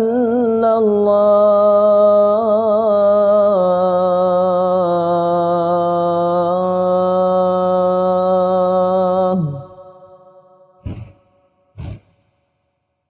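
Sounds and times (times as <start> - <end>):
boy chanting call to prayer: 0.0 - 11.2.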